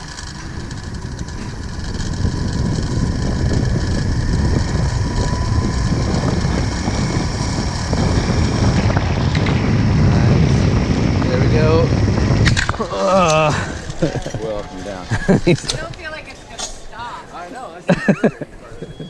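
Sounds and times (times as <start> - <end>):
wind on microphone: 0.0 - 16.9
zipline pulleys whirring: 0.0 - 19.0.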